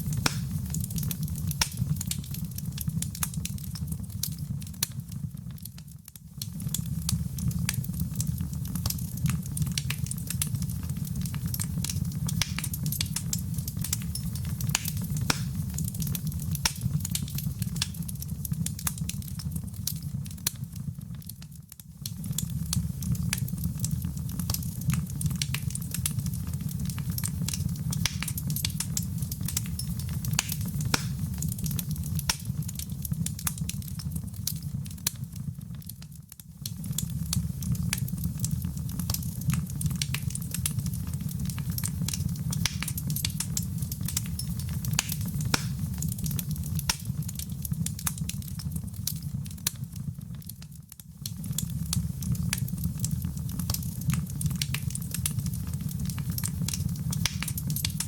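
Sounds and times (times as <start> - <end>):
fire rumbling: 0.0 - 58.0
wood fire crackling and popping: 0.0 - 58.0.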